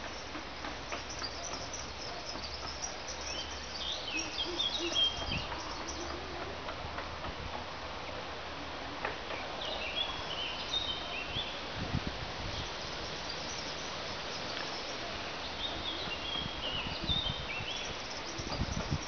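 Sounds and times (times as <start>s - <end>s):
songbird singing: 0.0s - 19.0s
steady outdoor hiss: 0.0s - 19.0s.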